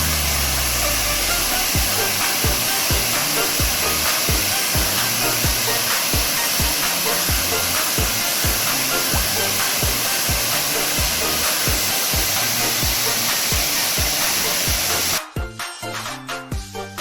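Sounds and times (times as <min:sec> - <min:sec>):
waterfall rushing: 0:00.0 - 0:15.2
music with kick-drum beat: 0:00.0 - 0:17.0.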